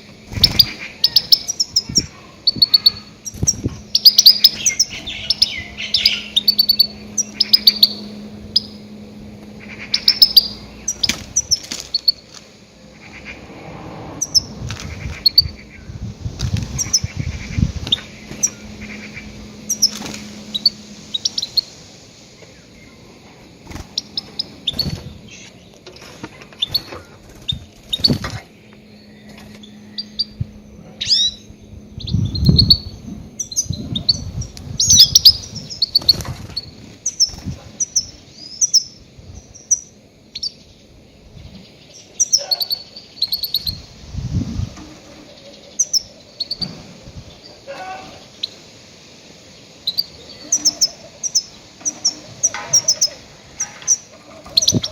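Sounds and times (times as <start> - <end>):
goldfinch twittering chirps: 0.3 - 12.3, 14.2 - 15.9, 16.7 - 44.0, 45.1 - 46.7, 49.5 - 54.9.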